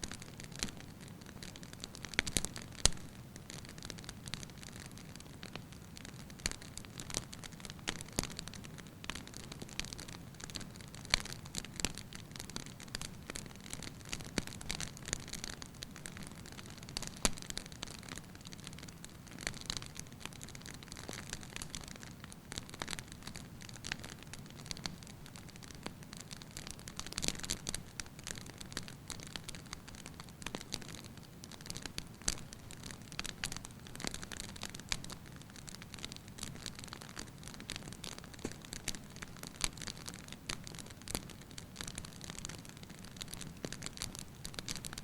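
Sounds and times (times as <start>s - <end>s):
logs crackling and popping: 0.0s - 45.0s.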